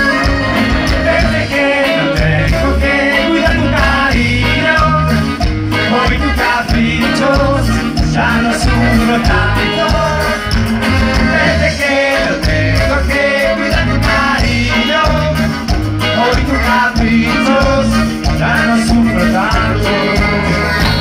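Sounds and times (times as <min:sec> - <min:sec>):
person singing over a band: 0:00.0 - 0:21.0
pulsing bass beat: 0:00.0 - 0:21.0.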